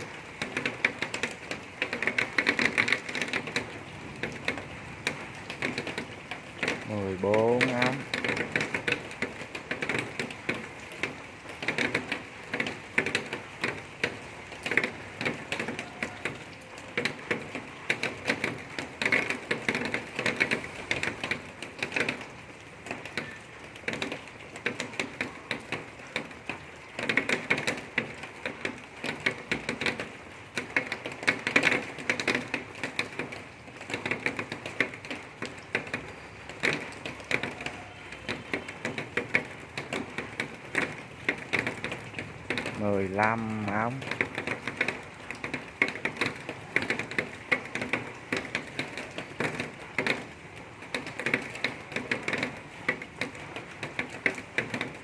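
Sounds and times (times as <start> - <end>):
rain drops pattering on surface: 0.0 - 55.0.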